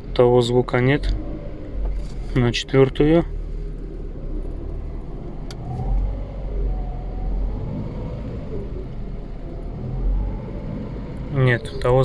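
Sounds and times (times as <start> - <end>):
car engine and gearbox rumbling: 0.0 - 12.0.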